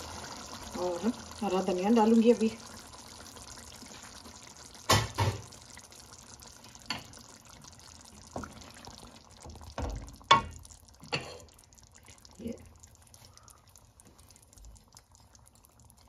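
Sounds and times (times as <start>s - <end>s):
curry bubbling in a pot: 0.0s - 16.0s.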